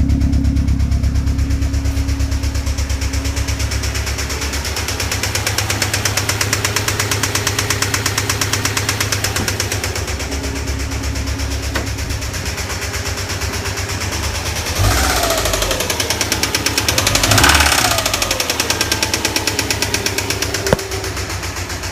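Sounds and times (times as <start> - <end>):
car engine knocking: 0.0 - 21.9
car engine revving: 0.0 - 21.9.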